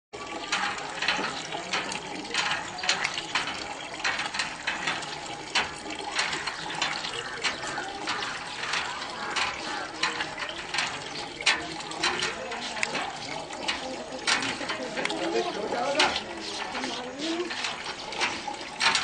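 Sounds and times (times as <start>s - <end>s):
hand pump lever working: 0.2s - 19.0s
water gushing into plastic bucket: 0.2s - 19.0s.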